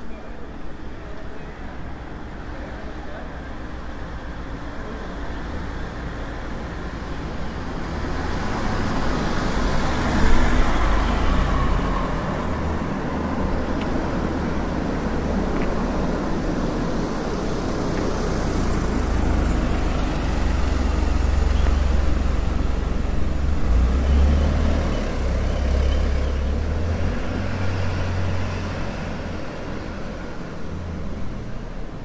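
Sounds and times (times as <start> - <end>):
vehicle passing on street: 4.2 - 32.0.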